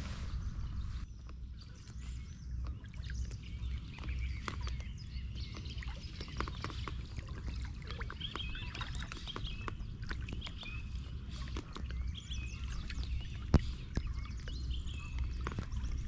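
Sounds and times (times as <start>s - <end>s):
birds chirping: 0.0s - 16.0s
low water rumble: 0.0s - 16.0s.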